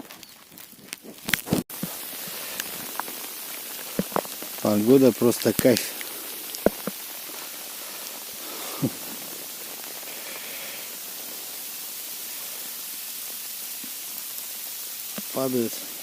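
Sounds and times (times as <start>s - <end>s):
rain and wet snow hissing: 0.0s - 16.0s.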